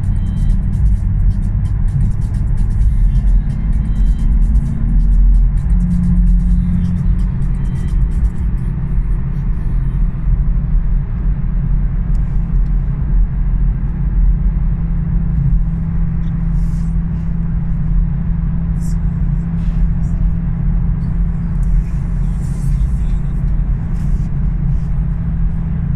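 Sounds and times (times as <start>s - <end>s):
car engine cruising: 0.0s - 25.9s
road noise: 0.0s - 25.9s.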